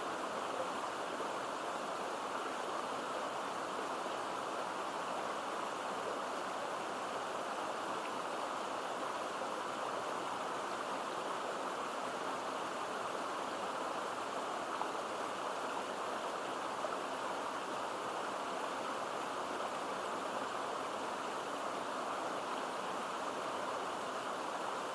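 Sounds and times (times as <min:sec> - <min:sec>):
stream of water running: 0:00.0 - 0:24.9.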